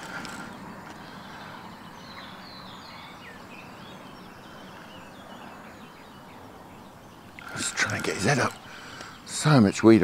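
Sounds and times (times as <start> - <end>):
small birds singing: 0.0 - 10.0
steady background hiss: 0.0 - 10.0.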